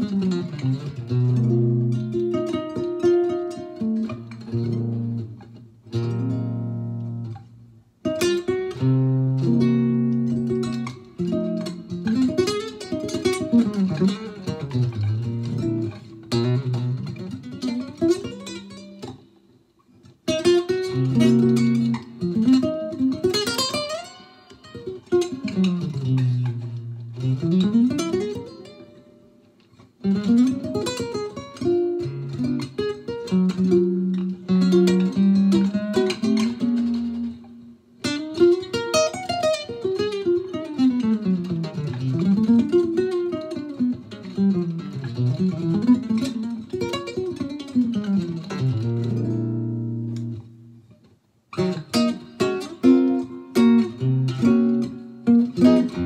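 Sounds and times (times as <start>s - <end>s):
electric guitar jazz improvisation: 0.0s - 56.0s
faint amplifier buzz: 0.0s - 56.0s.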